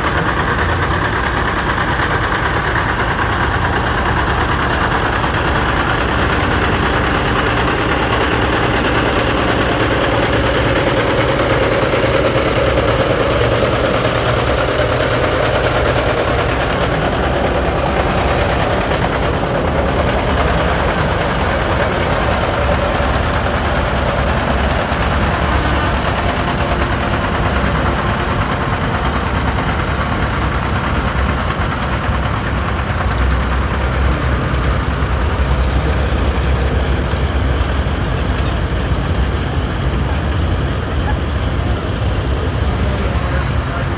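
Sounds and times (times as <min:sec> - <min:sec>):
tractor engines running: 0:00.0 - 0:43.9.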